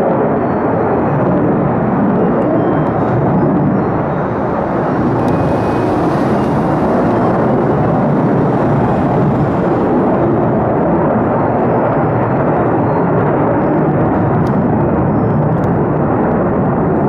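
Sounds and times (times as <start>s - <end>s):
jet engine roaring: 0.0s - 17.0s.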